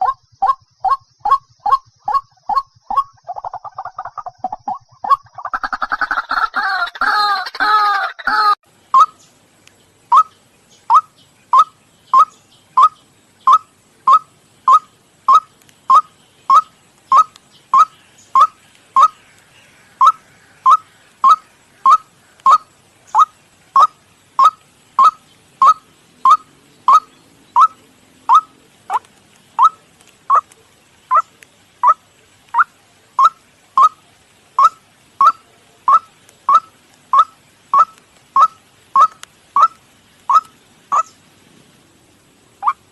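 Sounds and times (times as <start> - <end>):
waterhen calling: 0.0 - 9.4, 10.0 - 41.7, 42.3 - 42.9.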